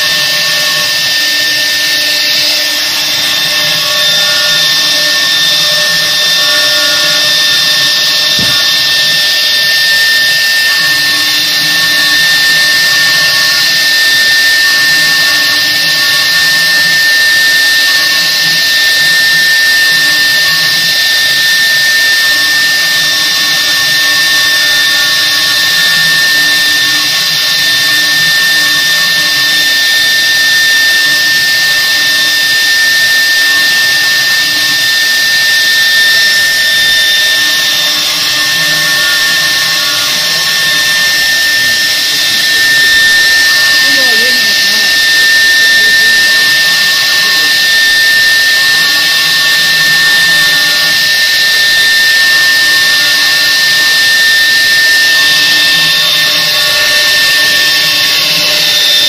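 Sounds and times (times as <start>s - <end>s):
router spindle whine: 0.0s - 59.0s
wood cutting noise: 0.0s - 59.0s.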